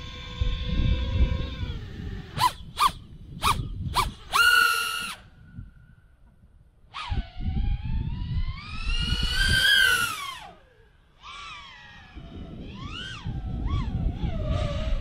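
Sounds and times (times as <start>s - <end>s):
quadcopter motors whining: 0.0s - 5.8s, 6.8s - 15.0s.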